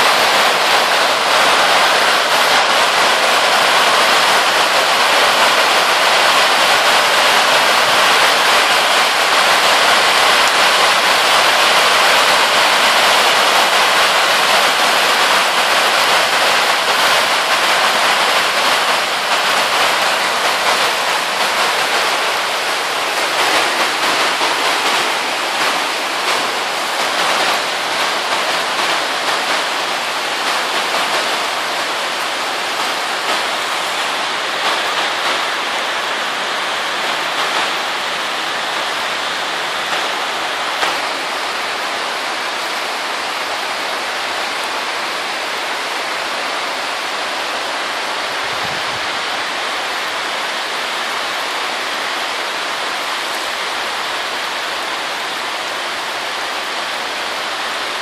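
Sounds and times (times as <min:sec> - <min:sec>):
rain on plastic sheeting: 0:00.0 - 0:58.0.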